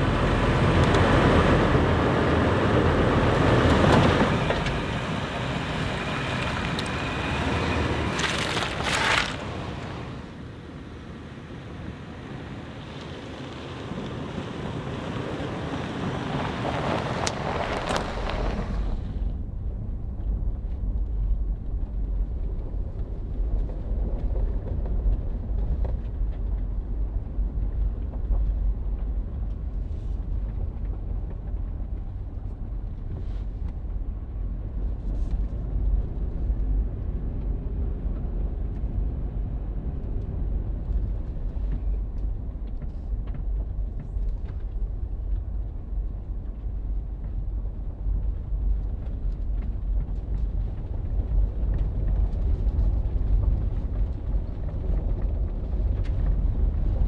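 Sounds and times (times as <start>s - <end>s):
vehicle driving on gravel: 0.0s - 57.0s.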